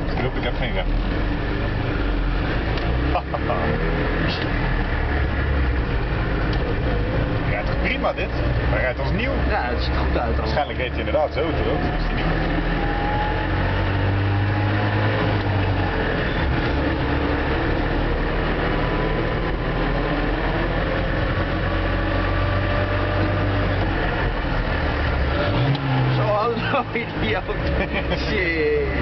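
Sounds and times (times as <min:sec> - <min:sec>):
car engine running: 0:00.0 - 0:29.0
road noise: 0:00.0 - 0:29.0.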